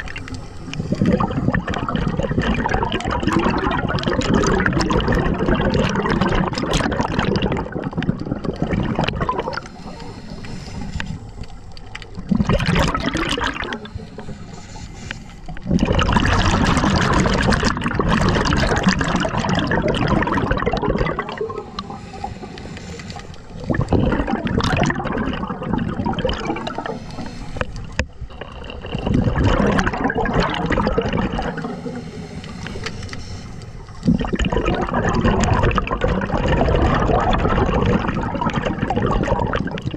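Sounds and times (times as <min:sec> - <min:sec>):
diver bubbling exhalations: 0:00.0 - 0:11.1, 0:12.1 - 0:14.4, 0:15.5 - 0:22.6, 0:23.5 - 0:33.1, 0:33.9 - 0:39.9.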